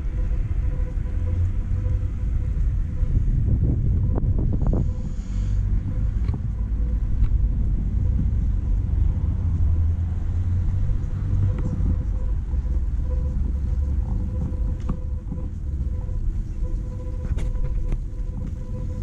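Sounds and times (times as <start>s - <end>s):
faint steady whine: 0.0s - 19.0s
low rumble of road traffic: 0.0s - 19.0s.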